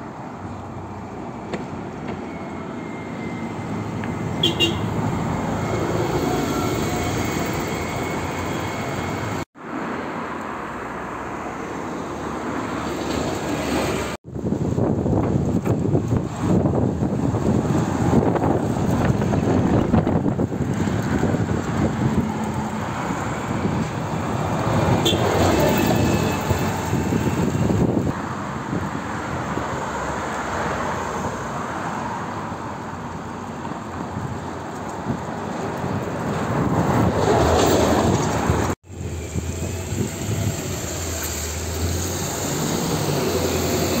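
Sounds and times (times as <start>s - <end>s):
bus engine humming: 0.0s - 9.5s, 10.4s - 30.4s, 32.3s - 44.0s
buses and cars passing: 0.0s - 44.0s.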